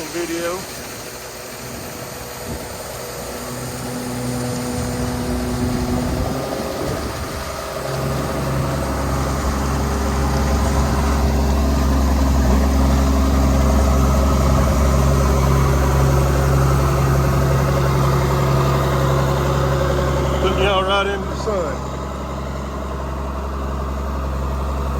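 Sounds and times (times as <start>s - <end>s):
combine engine drone: 0.0s - 24.9s.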